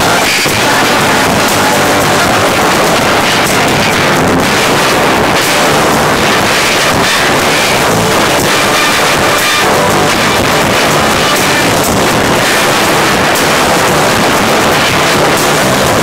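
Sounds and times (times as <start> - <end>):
distorted live rock band: 0.0 - 16.0.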